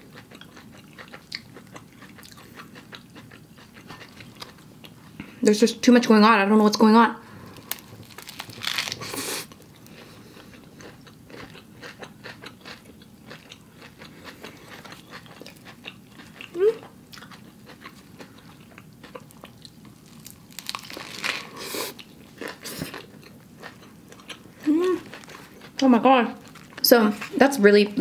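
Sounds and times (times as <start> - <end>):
crunching and chewing burger: 0.0 - 5.2, 7.4 - 27.4.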